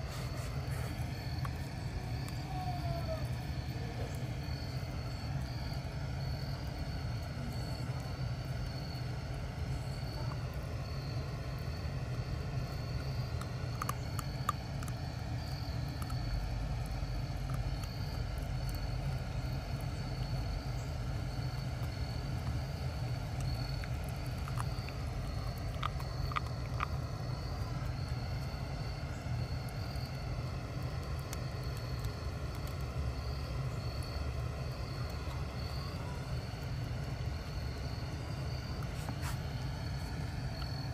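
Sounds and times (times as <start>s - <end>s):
outdoor background rumble: 0.0s - 40.9s.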